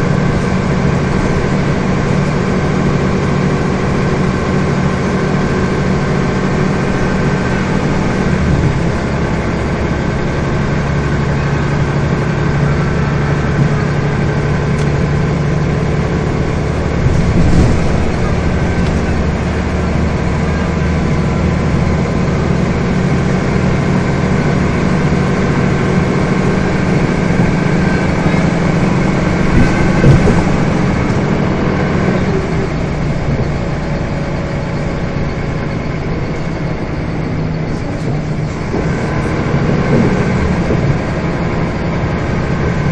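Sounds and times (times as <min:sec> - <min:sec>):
bus diesel engine running: 0:00.0 - 0:42.9
road and body noise: 0:00.0 - 0:42.9.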